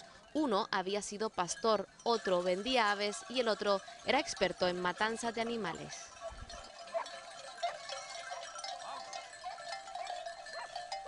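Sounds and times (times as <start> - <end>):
goat bells clinking and ringing: 0.0 - 11.0.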